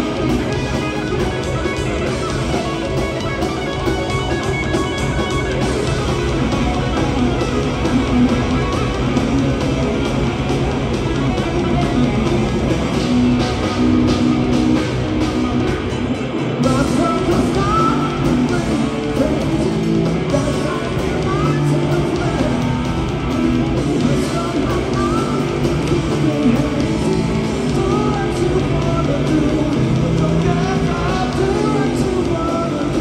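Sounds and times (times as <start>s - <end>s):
live rock band playing: 0.0s - 33.0s
wavering electric guitar line: 0.0s - 33.0s.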